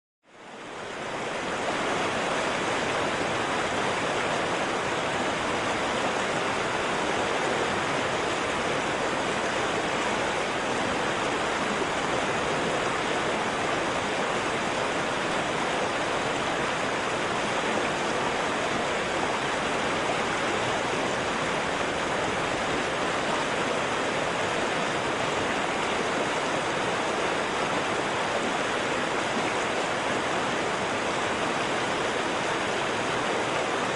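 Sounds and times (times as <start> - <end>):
stream rushing over rocks: 0.3 - 33.9.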